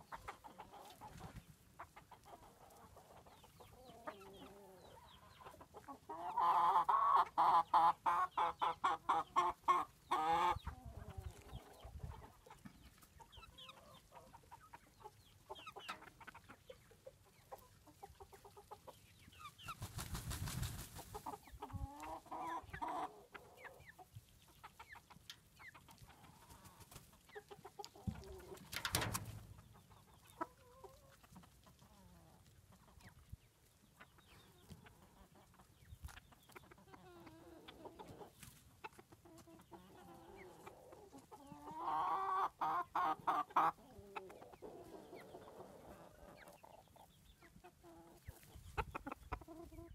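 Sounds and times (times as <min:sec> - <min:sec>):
chickens clucking and cackling: 0:00.0 - 0:49.9.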